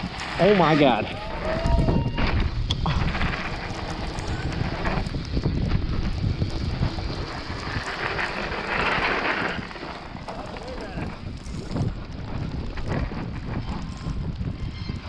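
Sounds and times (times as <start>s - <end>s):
bike tyres scraping over snow: 0.0s - 15.0s
wind buffeting microphone: 0.0s - 15.0s.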